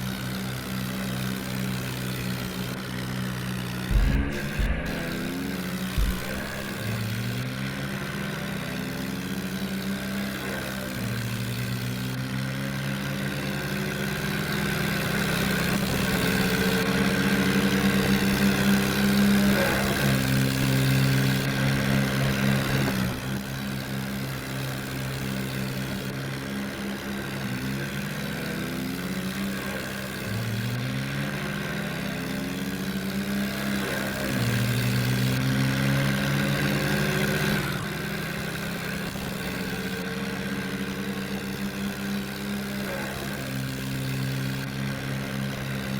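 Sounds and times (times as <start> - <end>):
tractor engine revving: 0.0 - 45.9.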